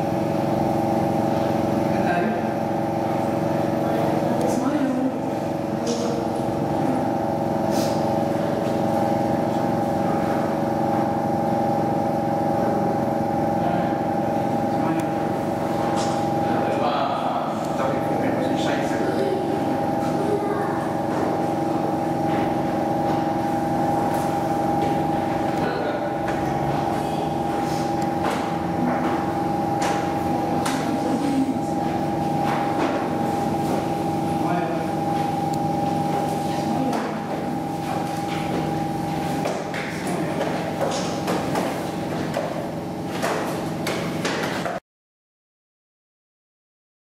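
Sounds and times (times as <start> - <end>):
mechanical hum: 0.0 - 44.8.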